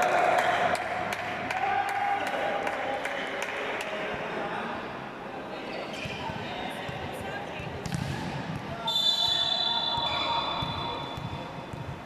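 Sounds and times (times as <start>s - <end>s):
crowd voices and shouts: 0.0s - 11.2s.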